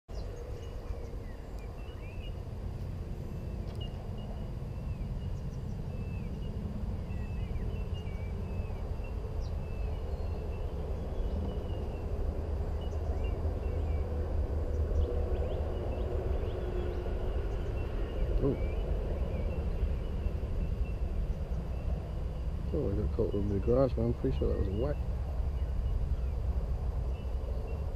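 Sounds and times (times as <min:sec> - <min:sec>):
small birds chirping: 0:00.1 - 0:27.9
steady low rumble: 0:00.1 - 0:27.9.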